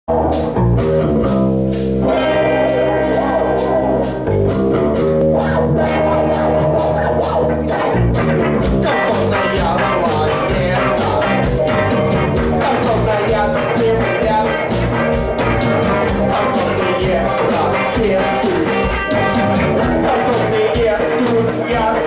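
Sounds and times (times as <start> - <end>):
bass guitar: 0.0 - 22.0
drum kit: 0.1 - 22.0
electric guitar: 0.1 - 22.0.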